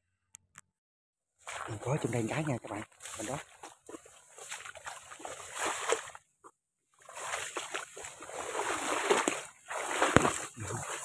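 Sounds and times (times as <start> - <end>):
rustling wet grass: 1.4 - 6.2, 7.0 - 11.0
footsteps splashing in water: 1.4 - 6.3, 7.0 - 11.0.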